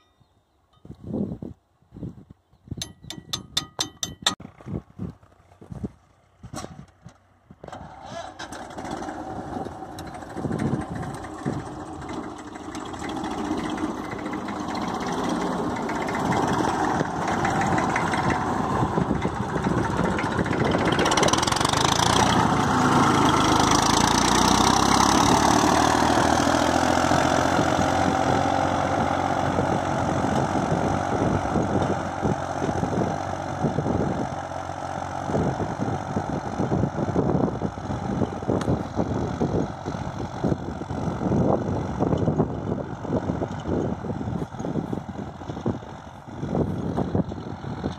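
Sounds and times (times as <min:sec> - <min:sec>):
tractor diesel engine under load: 0:02.8 - 0:47.9.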